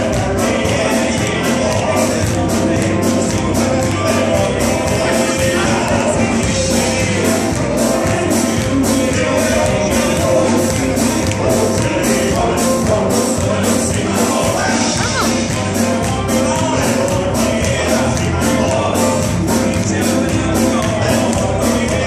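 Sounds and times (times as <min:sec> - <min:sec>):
drums beat: 0:00.0 - 0:22.0
electric guitar: 0:00.0 - 0:22.0
keyboard: 0:00.0 - 0:22.0
male quartet singing: 0:00.0 - 0:22.0.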